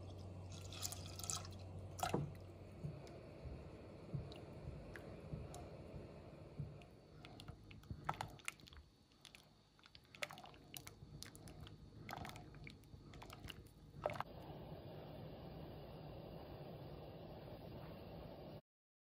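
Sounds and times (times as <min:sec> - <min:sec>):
faint low hum: 0:00.0 - 0:18.6.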